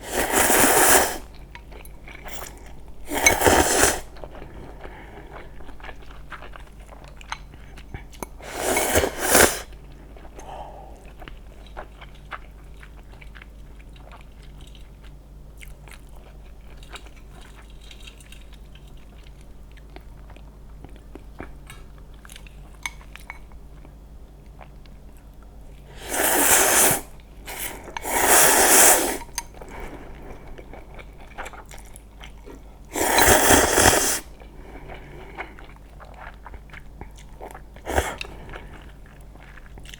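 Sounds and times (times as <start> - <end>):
quiet chewing: 0.1 - 39.9.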